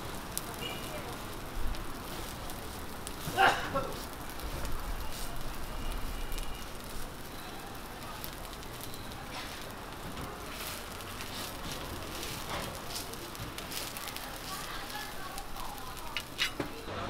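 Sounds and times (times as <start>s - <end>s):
pancakes sizzling in oil: 0.0s - 16.9s.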